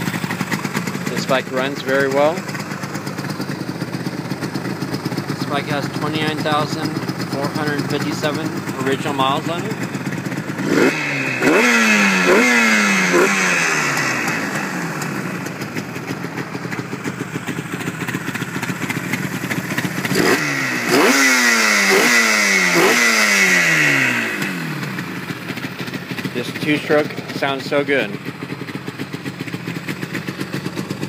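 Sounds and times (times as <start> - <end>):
motorcycle engine idling: 0.0 - 31.0
motorcycle engine revving: 0.0 - 31.0.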